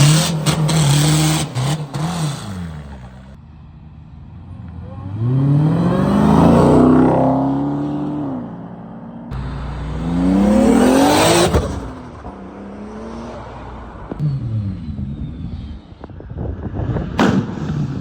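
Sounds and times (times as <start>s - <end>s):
car engine revving: 0.0s - 3.4s, 4.2s - 18.0s.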